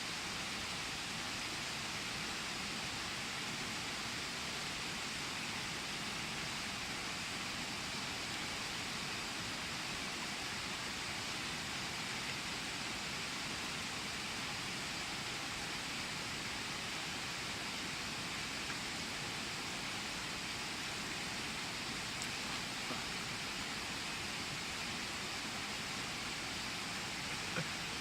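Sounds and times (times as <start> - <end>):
stream water rushing: 0.1 - 28.0.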